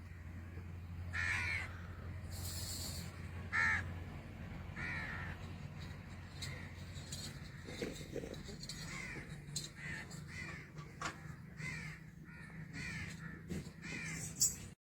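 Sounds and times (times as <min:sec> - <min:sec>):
crows cawing: 0:00.0 - 0:02.4, 0:03.1 - 0:04.0, 0:04.7 - 0:14.6
steady low hum: 0:00.0 - 0:14.8.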